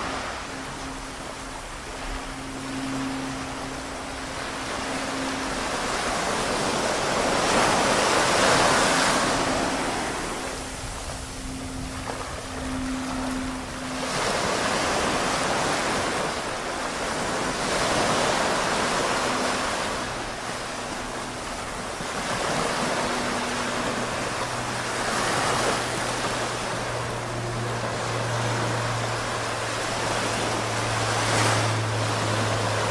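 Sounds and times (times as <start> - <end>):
sea waves washing on beach: 0.0 - 32.9.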